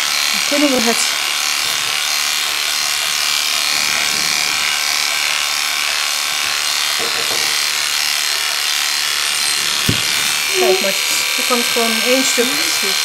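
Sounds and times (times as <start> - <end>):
electric clippers shearing fur: 0.0 - 13.0.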